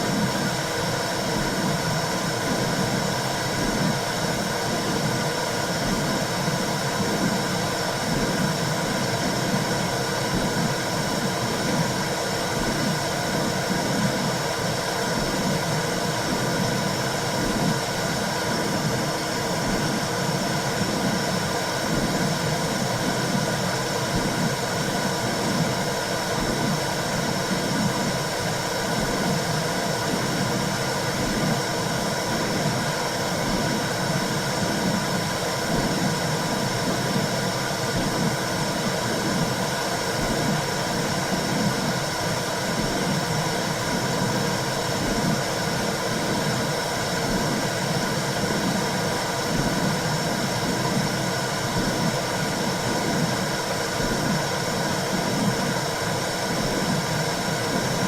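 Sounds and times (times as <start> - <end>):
rushing noise with whooshing pulse: 0.0 - 58.0.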